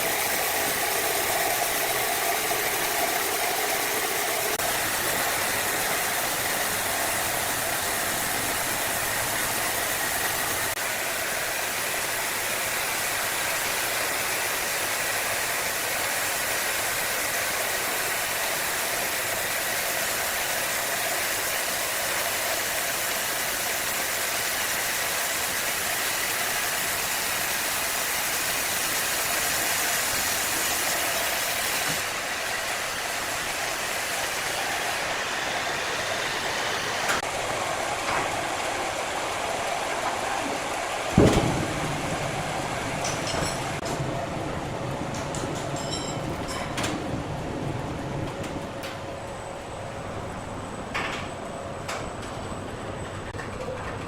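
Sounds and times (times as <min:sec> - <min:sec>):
saw machine whirring: 0:00.0 - 0:44.2.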